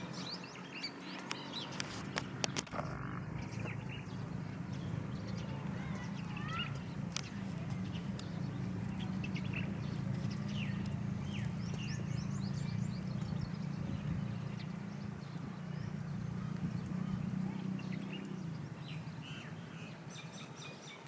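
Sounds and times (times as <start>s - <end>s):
bird trill: 0.0s - 21.0s
small birds chirping: 0.0s - 21.0s
steady low rumble: 2.0s - 19.3s.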